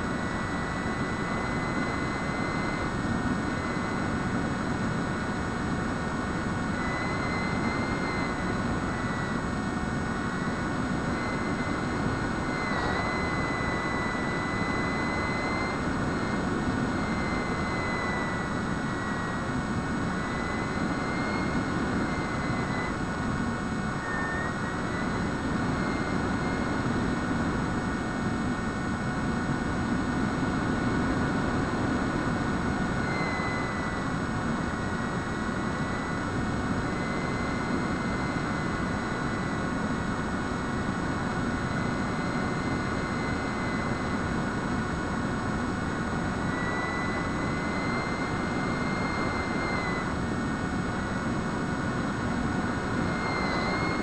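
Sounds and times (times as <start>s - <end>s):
electric motor and propeller whine: 0.0s - 54.0s.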